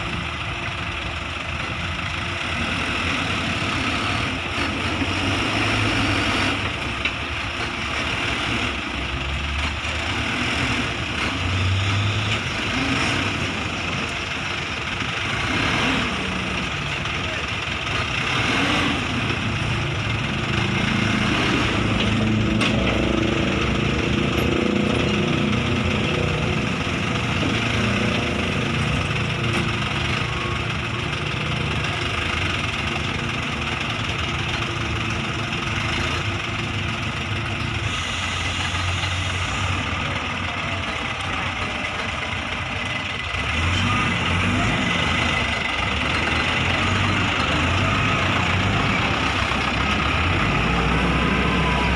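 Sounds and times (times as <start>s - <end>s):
truck engine running: 0.0s - 51.9s.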